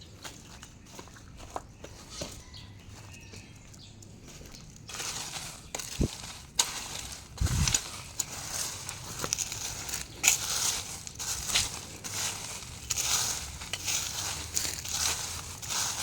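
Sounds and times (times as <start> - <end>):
crunching and crinkling: 0.0 - 16.0.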